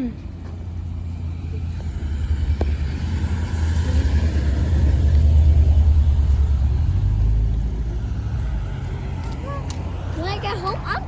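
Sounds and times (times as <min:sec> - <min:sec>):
loud low rumble: 0:00.0 - 0:10.4.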